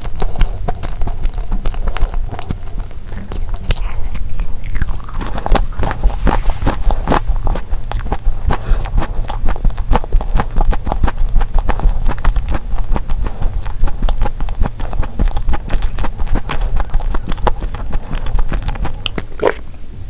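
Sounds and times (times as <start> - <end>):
chewing cookie: 0.0 - 19.8
steady low rumble: 0.0 - 20.0.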